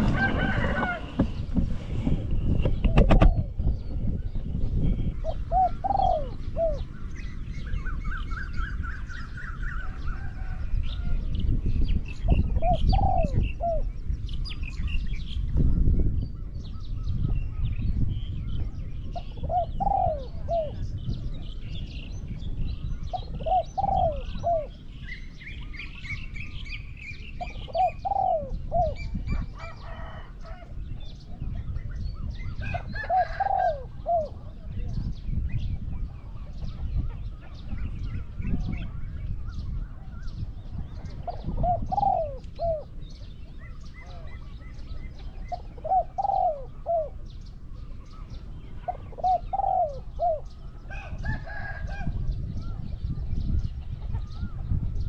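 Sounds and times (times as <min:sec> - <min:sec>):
doves cooing: 0:00.0 - 0:11.3, 0:12.2 - 0:13.9, 0:18.7 - 0:21.9, 0:22.9 - 0:35.0, 0:35.8 - 0:53.0
small birds chirping: 0:00.0 - 0:55.0.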